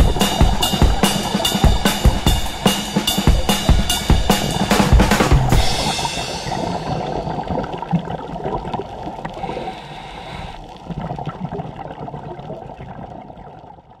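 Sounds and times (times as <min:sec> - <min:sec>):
water gurgling underwater: 0:00.0 - 0:14.0.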